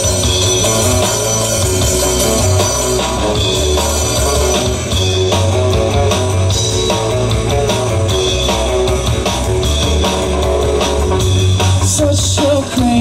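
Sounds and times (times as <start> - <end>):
bass guitar: 0.0 - 13.0
guitar: 0.0 - 13.0
rock band instrumental: 0.0 - 13.0.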